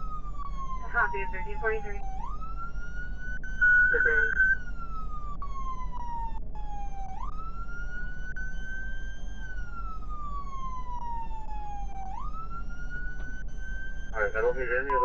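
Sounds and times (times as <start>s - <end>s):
low steady hum: 0.0s - 15.0s
police siren wailing: 0.0s - 15.0s.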